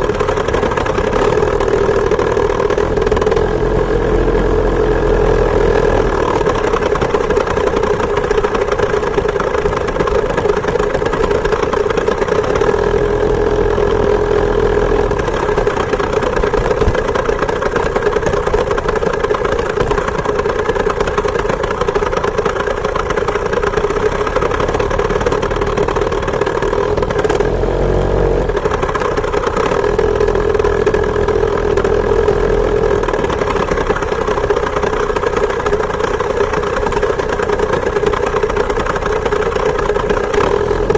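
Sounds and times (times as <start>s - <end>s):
two-stroke engine at high revs: 0.0s - 40.9s.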